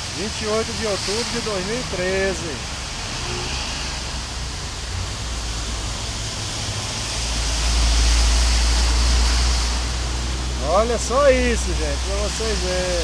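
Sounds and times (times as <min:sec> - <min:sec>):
floodwater rushing: 0:00.0 - 0:13.0
heavy rain: 0:00.0 - 0:13.0.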